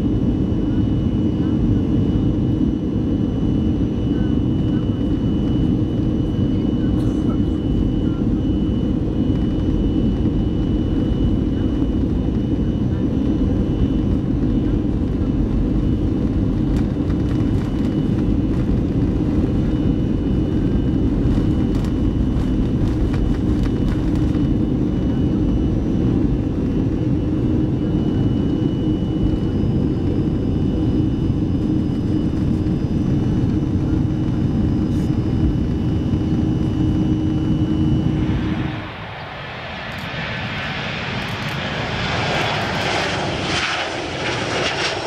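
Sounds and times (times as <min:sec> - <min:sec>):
higher engine whine: 0:00.0 - 0:45.0
jet engines rumbling in cabin: 0:00.0 - 0:45.0.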